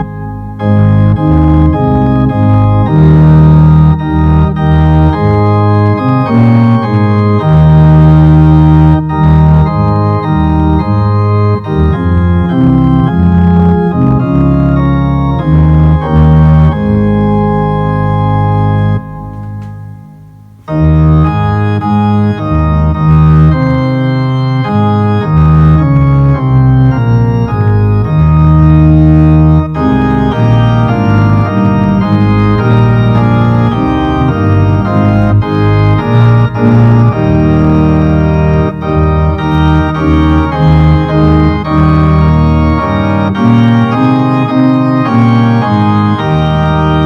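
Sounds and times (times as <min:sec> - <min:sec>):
organ chords: 0:00.0 - 0:47.0.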